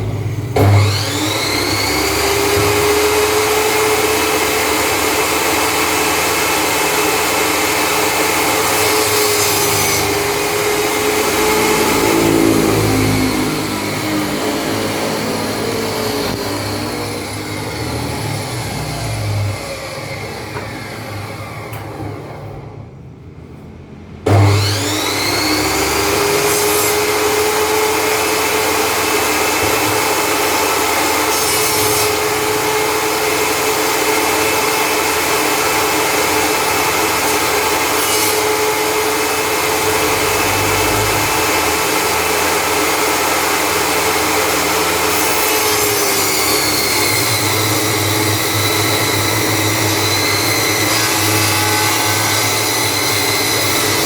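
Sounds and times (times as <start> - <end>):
table saw running: 0.0 - 22.6, 24.2 - 54.0.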